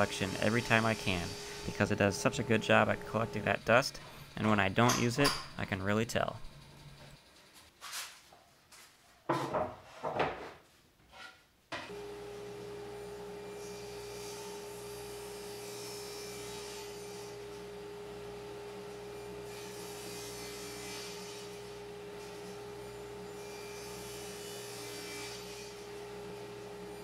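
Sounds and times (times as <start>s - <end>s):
table saw motor humming: 0.0s - 7.4s, 11.9s - 27.0s.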